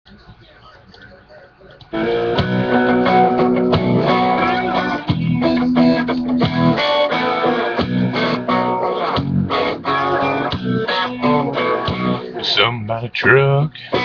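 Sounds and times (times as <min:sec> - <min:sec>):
strummed guitar chords: 0:01.9 - 0:14.0.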